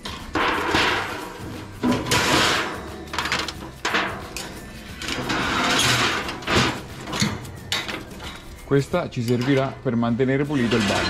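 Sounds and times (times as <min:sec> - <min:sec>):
metal grill grates knocking: 0:00.0 - 0:09.8.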